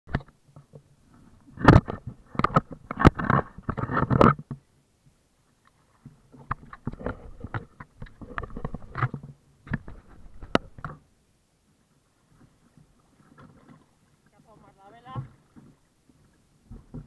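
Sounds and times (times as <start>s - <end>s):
kayak handling knocks and clicks: 0.1s - 4.7s, 5.6s - 11.1s, 12.4s - 17.0s.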